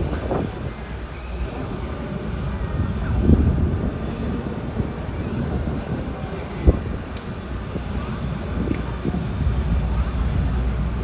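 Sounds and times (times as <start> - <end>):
helicopter low rumble: 0.0 - 11.0.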